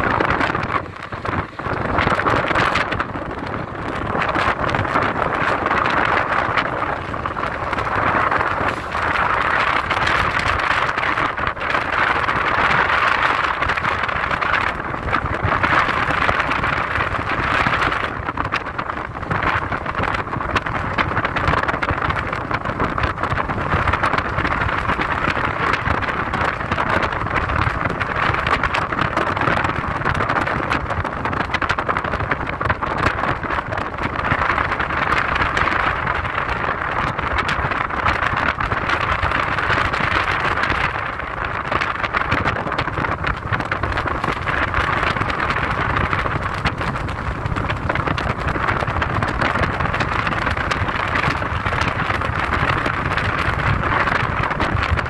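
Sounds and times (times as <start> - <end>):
car engine rumble: 0.0 - 55.0
tyre and road noise: 0.0 - 55.0.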